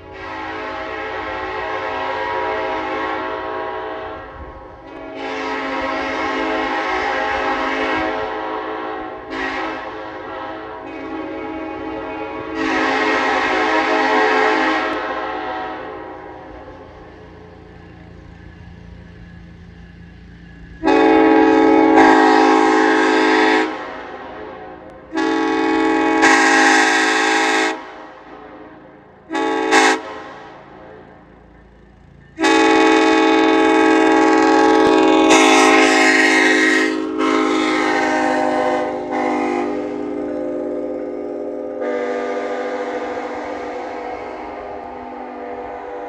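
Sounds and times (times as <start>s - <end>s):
locomotive air horn blasts: 0.0s - 19.2s, 20.8s - 31.2s, 32.3s - 46.0s.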